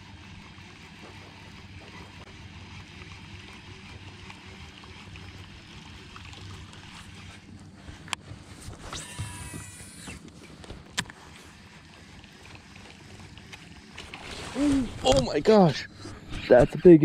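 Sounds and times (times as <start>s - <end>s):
water around boat: 0.0s - 17.0s.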